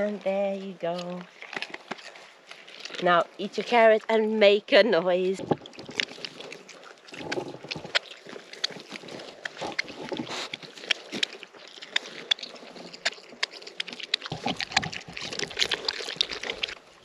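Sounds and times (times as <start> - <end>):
pigs chewing carrots: 0.0 - 17.0.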